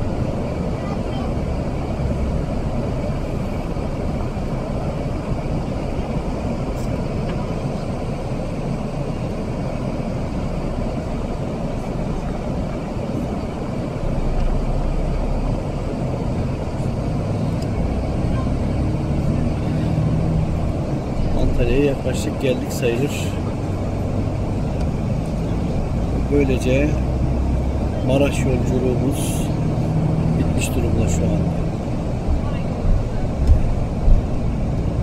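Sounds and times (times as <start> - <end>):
bus engine and road rumble: 0.0 - 35.0.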